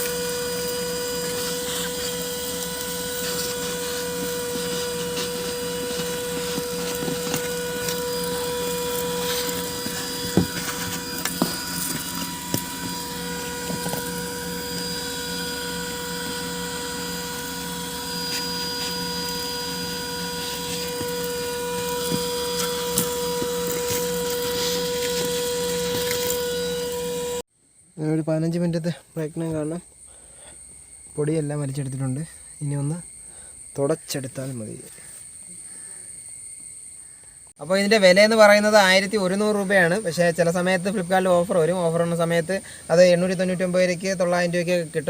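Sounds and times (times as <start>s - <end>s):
handheld vacuum cleaner whine: 0.0s - 28.2s, 29.5s - 45.0s.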